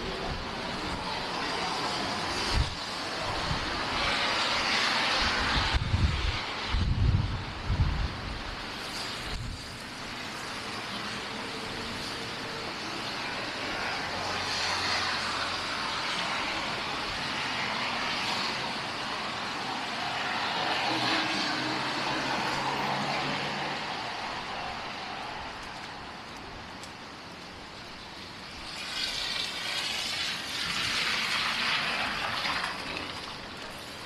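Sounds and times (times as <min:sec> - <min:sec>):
vehicles passing: 0:00.0 - 0:34.0.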